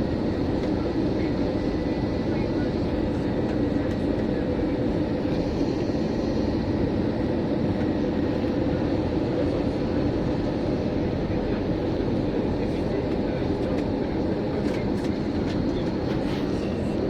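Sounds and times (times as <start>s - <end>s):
airplane cabin engine noise: 0.0s - 17.0s.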